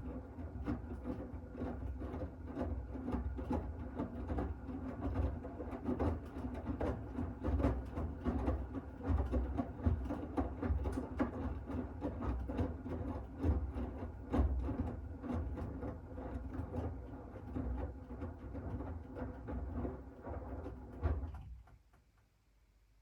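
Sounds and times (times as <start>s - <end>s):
washing machine rumble and hum: 0.0s - 21.7s.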